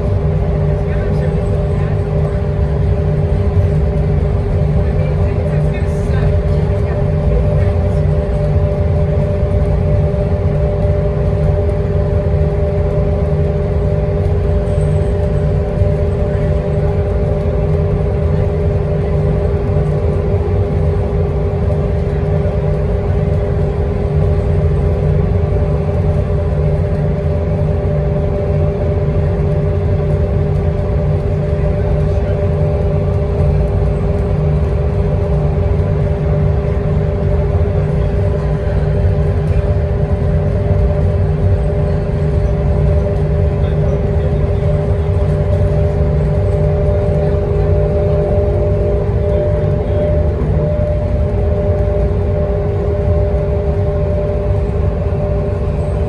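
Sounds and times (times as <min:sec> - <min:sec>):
bus engine and road rumble: 0:00.0 - 0:56.0
mid-pitched hum: 0:00.0 - 0:56.0.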